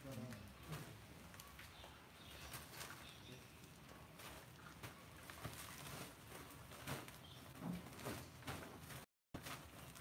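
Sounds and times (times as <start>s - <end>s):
plastic-wrapped bags knocking and rustling: 0.0s - 10.0s.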